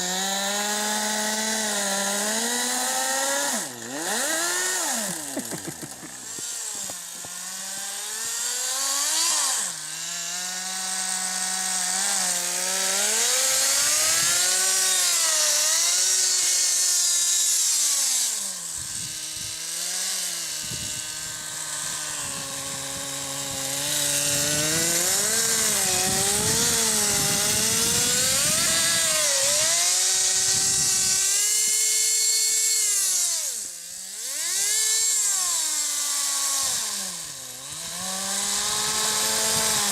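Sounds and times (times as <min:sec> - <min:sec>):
model engine buzzing and revving: 0:00.0 - 0:39.9.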